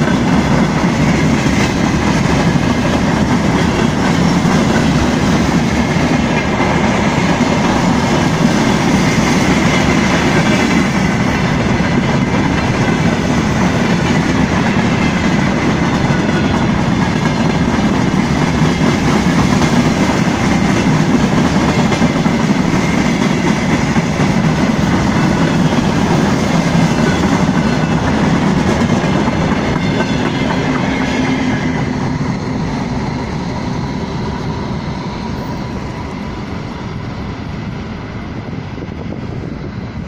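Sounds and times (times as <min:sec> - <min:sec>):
freight train wheels on rails: 0:00.0 - 0:40.0.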